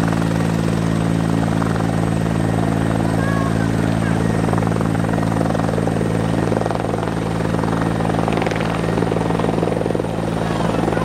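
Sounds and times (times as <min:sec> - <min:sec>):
helicopter rotor chop: 0:00.0 - 0:11.0
helicopter turbine hum: 0:00.0 - 0:11.0.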